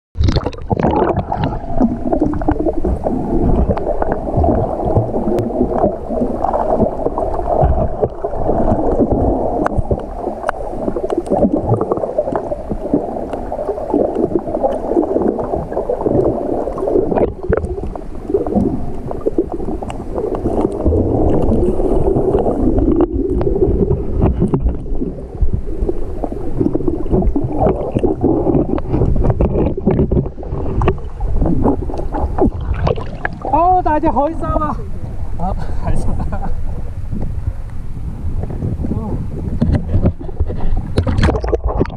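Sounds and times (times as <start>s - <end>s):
underwater muffled churning: 0.2s - 41.9s.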